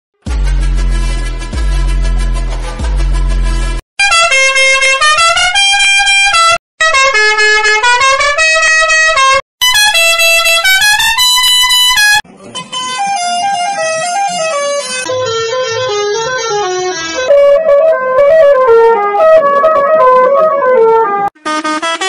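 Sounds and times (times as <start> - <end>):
musical bus horn tune: 0.2 - 22.0.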